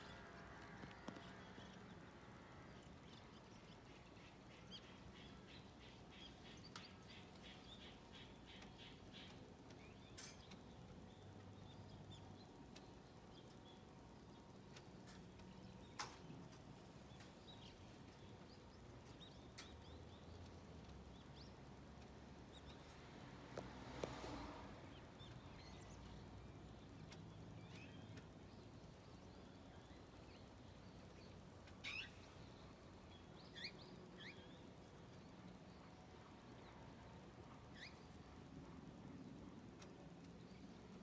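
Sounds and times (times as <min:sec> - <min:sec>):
outdoor background noise: 0:00.0 - 0:41.0.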